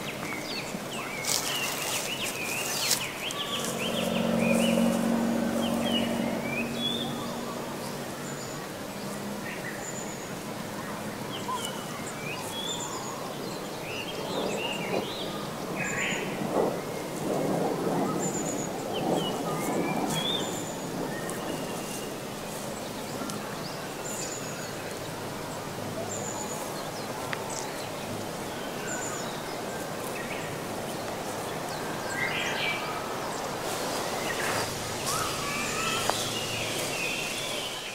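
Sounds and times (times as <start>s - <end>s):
small birds chirping: 0.0s - 37.9s
steady outdoor hiss: 0.0s - 37.9s.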